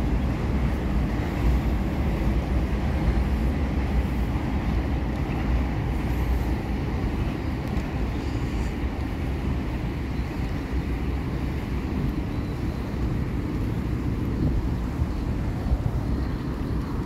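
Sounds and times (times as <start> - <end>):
bicycle tyres humming on asphalt: 0.0 - 17.0
wind buffeting microphone: 0.0 - 17.0.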